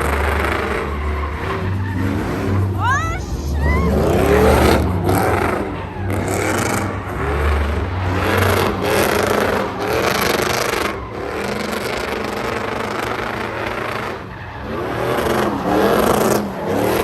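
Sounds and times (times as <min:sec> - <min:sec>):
truck engine revving: 0:00.0 - 0:17.0
tyres spinning on pavement: 0:00.0 - 0:17.0.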